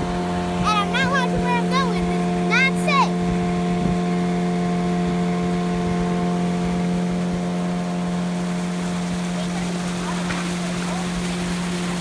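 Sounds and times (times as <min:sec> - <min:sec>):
small boat motor running: 0:00.0 - 0:12.0.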